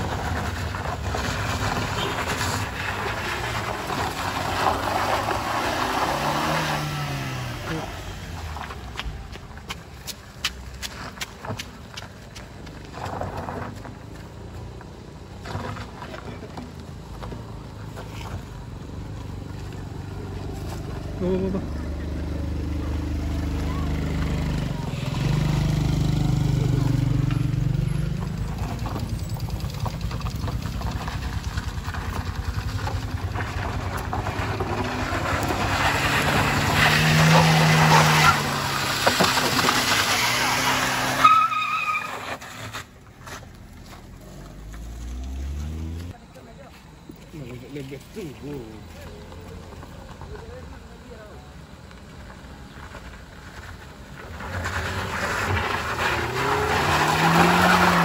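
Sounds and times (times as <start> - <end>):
motorcycle and car engines: 0.0 - 58.0
tyres on gravel: 0.0 - 58.0.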